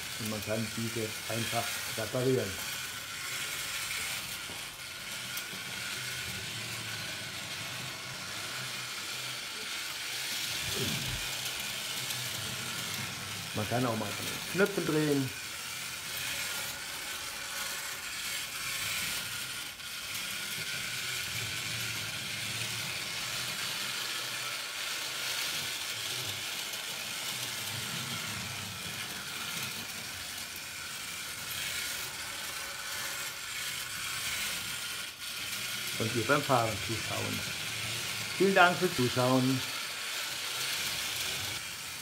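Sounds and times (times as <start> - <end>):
model train motor whirring: 0.0 - 42.0
wheels running on rails: 0.0 - 42.0.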